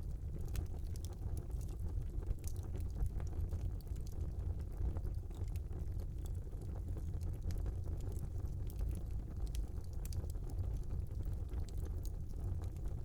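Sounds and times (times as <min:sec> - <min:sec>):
fire crackling and popping: 0:00.0 - 0:13.0
fire flames rumbling: 0:00.1 - 0:13.0.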